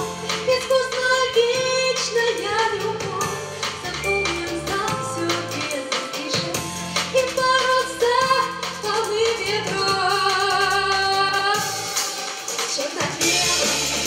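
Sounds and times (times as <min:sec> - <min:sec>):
backing track with beat and bass: 0:00.0 - 0:14.0.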